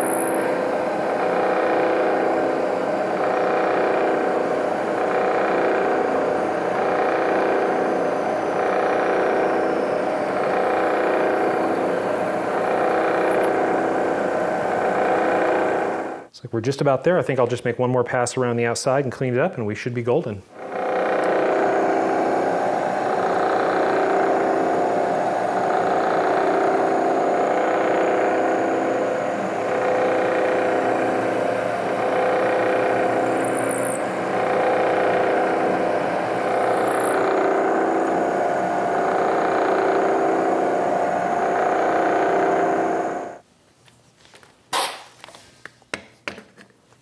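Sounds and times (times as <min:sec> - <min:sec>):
milling machine cutting whine: 0:00.0 - 0:16.3, 0:20.6 - 0:43.4.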